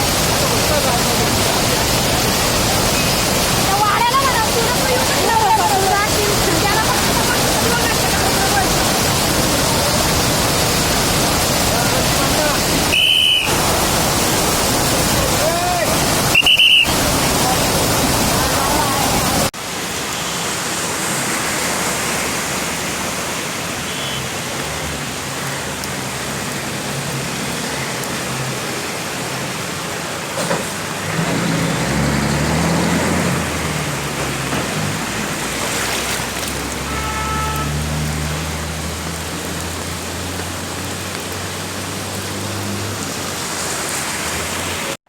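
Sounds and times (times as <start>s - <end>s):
heavy rain hissing: 0.0s - 45.0s.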